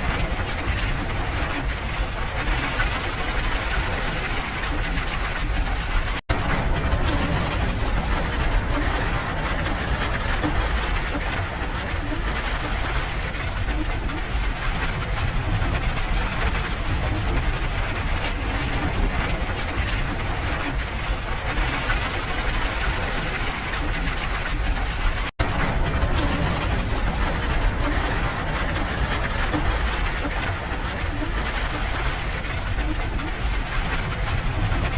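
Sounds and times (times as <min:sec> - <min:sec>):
low rumble: 0:00.0 - 0:34.9
steady rain: 0:00.0 - 0:34.9.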